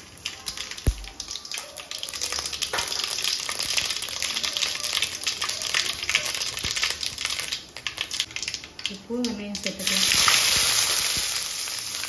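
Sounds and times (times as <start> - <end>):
seeds crackling and popping: 0.0 - 12.0
seeds sizzling in hot oil: 0.0 - 12.0.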